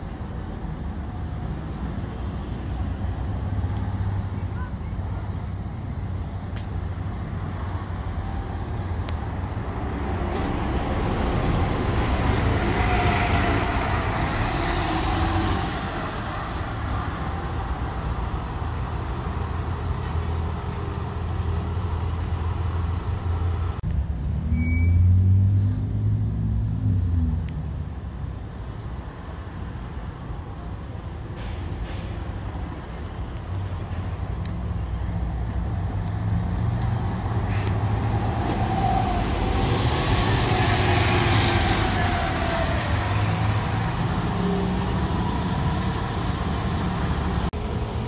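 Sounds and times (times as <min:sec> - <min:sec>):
bus passing close: 0:00.0 - 0:27.5, 0:28.1 - 0:48.0
bus engines humming: 0:00.0 - 0:48.0.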